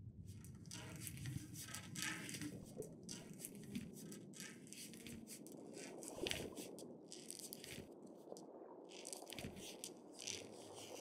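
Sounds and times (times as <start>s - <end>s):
turtle claws scratching on floor: 0.4s - 7.9s, 8.9s - 11.0s.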